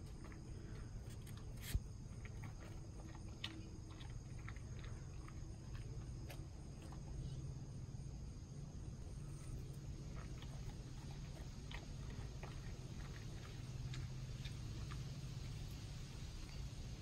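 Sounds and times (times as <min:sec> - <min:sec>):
dog chewing crackers: 0:00.0 - 0:08.1, 0:08.9 - 0:17.0.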